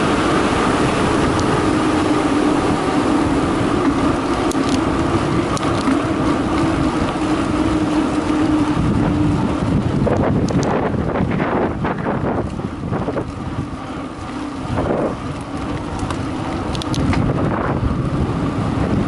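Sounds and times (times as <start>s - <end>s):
bike tyres rolling on concrete: 0.0s - 19.0s
wind rushing over microphone: 0.0s - 19.0s.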